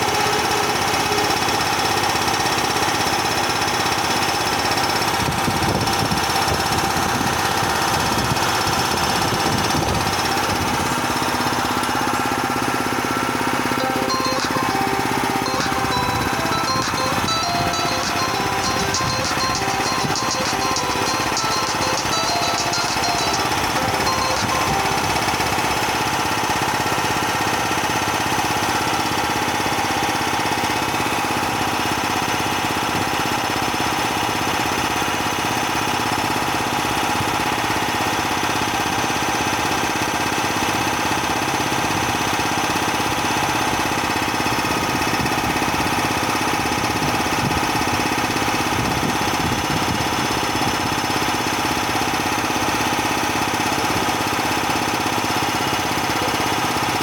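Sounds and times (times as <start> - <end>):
compressor droning: 0.0 - 57.0.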